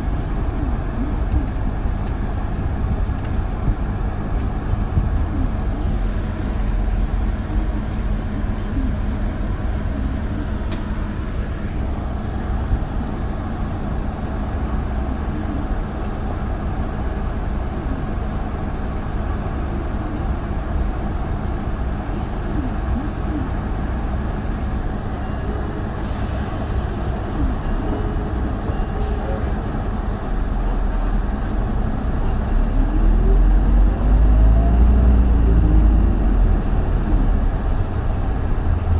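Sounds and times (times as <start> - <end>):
bus diesel engine drone: 0.0 - 38.9
road noise: 0.0 - 38.9.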